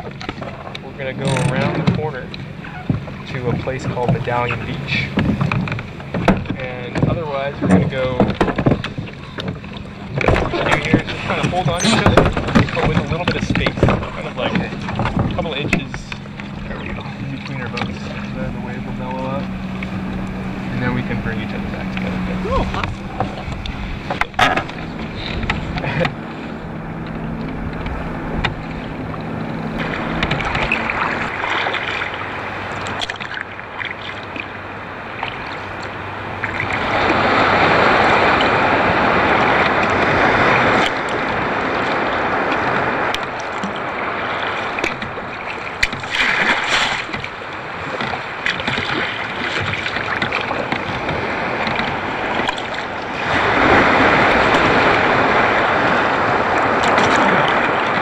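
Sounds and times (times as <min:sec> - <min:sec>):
boat wake splashing against kayaks: 0:00.0 - 0:58.0
low boat engine hum: 0:00.0 - 0:58.0.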